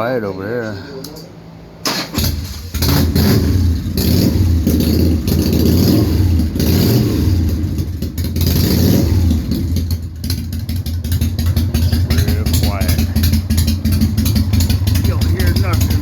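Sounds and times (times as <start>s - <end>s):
motorcycle engine running: 2.6s - 16.0s.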